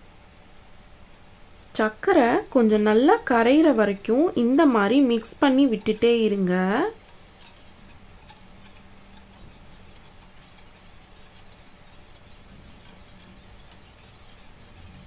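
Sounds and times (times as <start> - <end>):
whisk ticking against bowl: 1.0 - 15.0.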